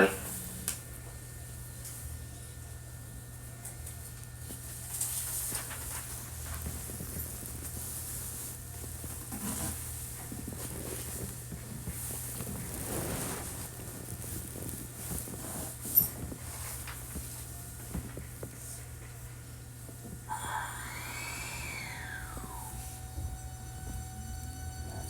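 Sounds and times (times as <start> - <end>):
train equipment humming: 0.0 - 3.6, 5.7 - 25.0.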